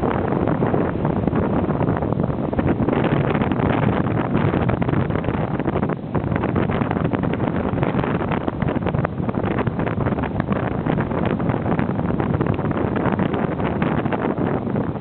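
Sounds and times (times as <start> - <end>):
rough surf: 0.0 - 15.0
wind buffeting microphone: 0.0 - 15.0.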